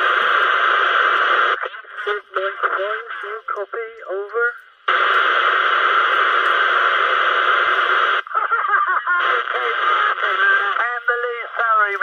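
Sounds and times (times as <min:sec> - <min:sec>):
voice over radio: 0:00.0 - 0:07.9, 0:09.2 - 0:12.0
radio static hiss: 0:00.0 - 0:12.0.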